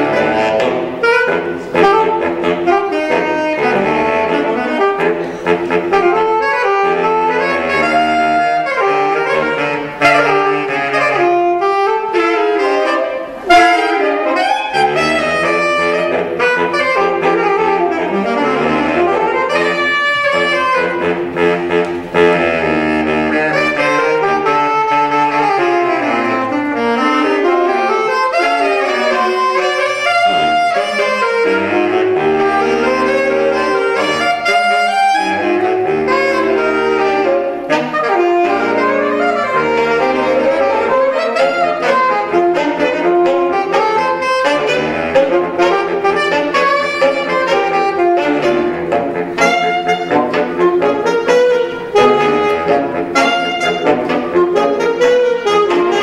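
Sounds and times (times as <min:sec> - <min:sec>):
saxophone quartet playing jazz: 0:00.0 - 0:56.0.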